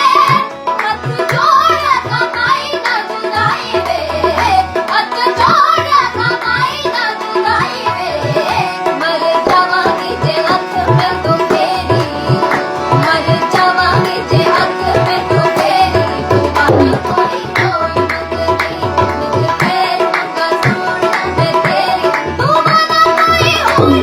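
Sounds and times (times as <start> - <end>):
sustained melodic accompaniment: 0.0 - 24.0
tabla playing a rhythm: 0.0 - 24.0.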